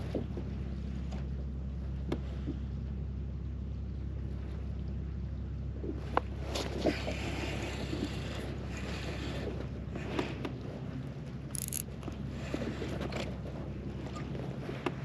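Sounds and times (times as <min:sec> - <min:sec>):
steady low hum: 0:00.0 - 0:15.0
water moving around kayak: 0:00.0 - 0:15.0
wind: 0:00.0 - 0:15.0.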